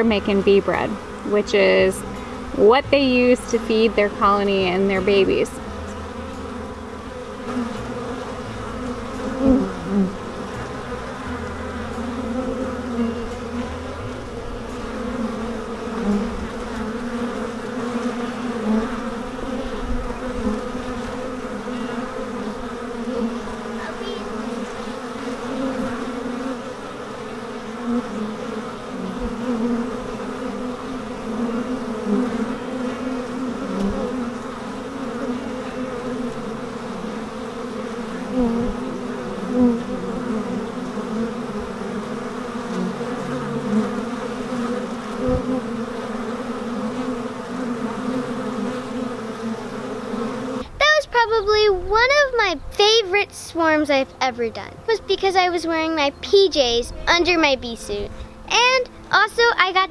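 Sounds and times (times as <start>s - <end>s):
honey bees buzzing: 0.0s - 59.9s.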